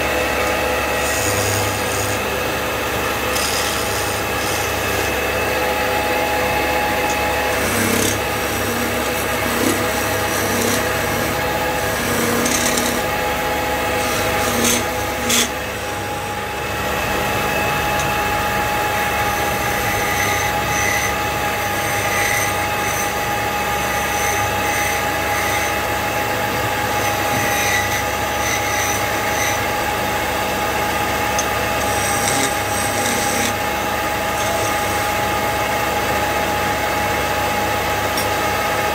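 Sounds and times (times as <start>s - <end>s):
turning tool cutting wood: 0.0s - 36.5s
wood lathe humming: 0.0s - 38.9s.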